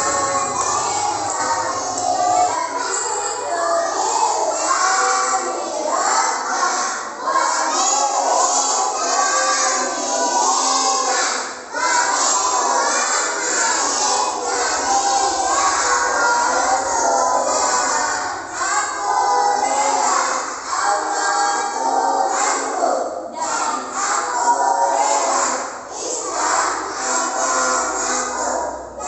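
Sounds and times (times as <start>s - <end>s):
children singing in unison: 0.0s - 29.0s.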